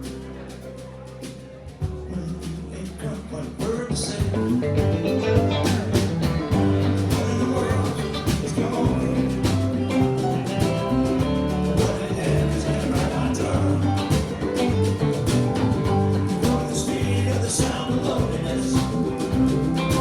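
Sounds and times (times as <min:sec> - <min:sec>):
country-rock band music: 0:00.0 - 0:20.0.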